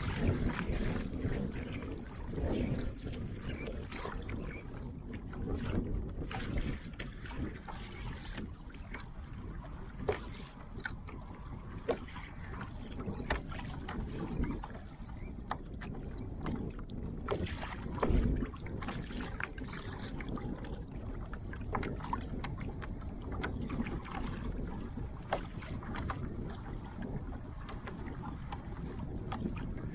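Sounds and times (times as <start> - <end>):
water splashing against kayak hull: 0.0 - 29.9.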